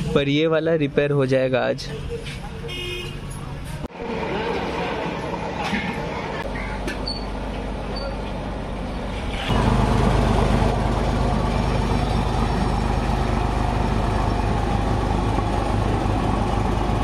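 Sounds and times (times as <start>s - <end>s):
road roller diesel engine: 1.9s - 17.0s.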